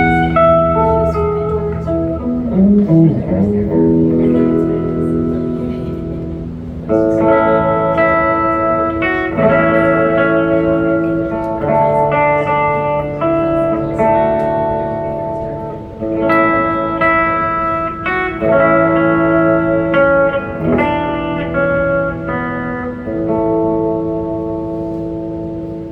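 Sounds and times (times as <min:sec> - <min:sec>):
electric guitar chords: 0:00.0 - 0:25.9.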